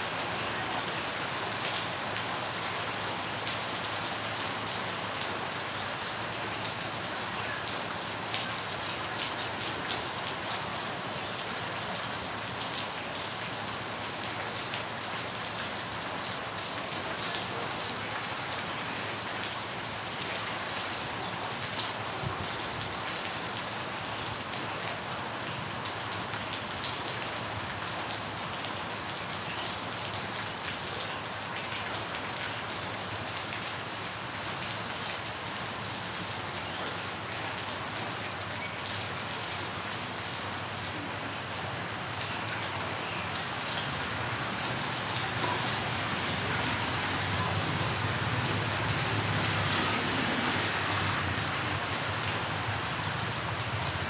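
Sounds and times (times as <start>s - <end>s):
rain falling on water: 0.0s - 54.0s.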